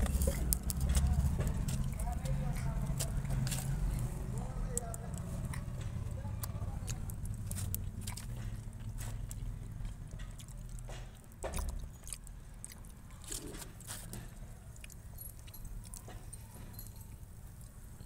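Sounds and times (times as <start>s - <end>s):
child chewing food: 0.0s - 18.0s.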